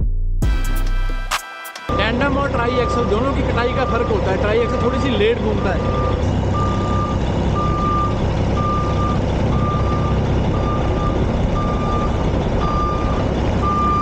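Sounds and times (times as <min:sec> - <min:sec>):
backup alarm beeping: 0:01.9 - 0:14.0
diesel truck engine running: 0:01.9 - 0:14.0.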